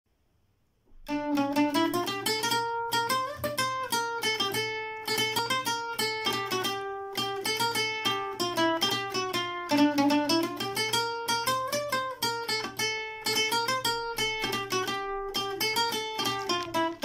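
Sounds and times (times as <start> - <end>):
plucked guitar melody: 0.9 - 17.0.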